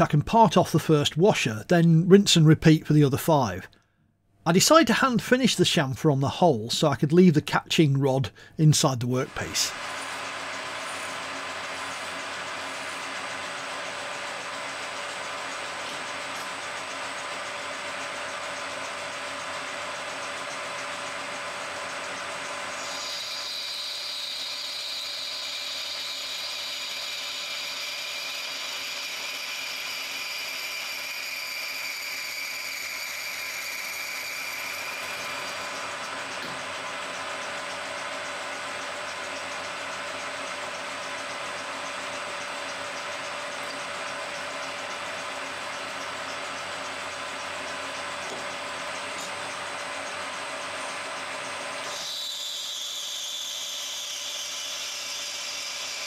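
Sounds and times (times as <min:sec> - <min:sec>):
high whine of cutting tool: 0:08.4 - 0:56.0
metal lathe running: 0:09.1 - 0:56.0.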